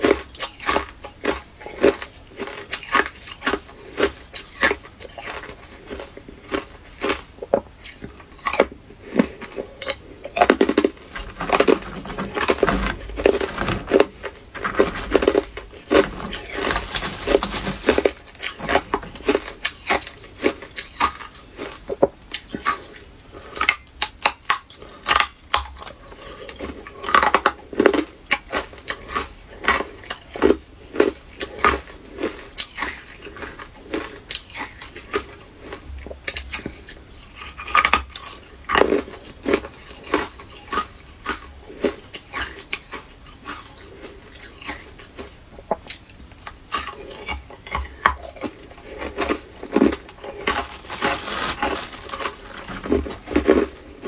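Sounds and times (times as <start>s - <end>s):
ice chunks being chewed: 0.0s - 54.0s.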